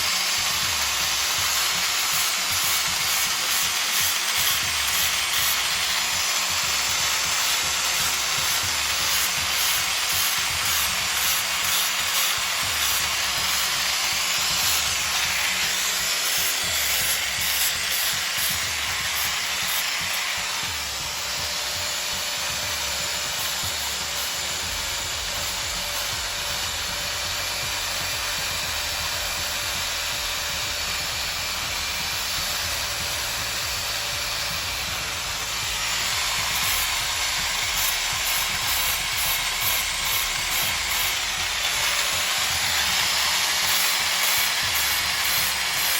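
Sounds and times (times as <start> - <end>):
power sander grinding wood: 0.0 - 45.9.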